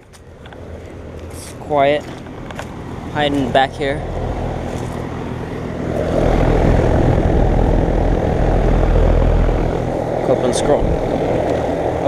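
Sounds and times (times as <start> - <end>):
compressor humming: 0.0 - 12.0
condenser fan rushing air: 0.0 - 12.0.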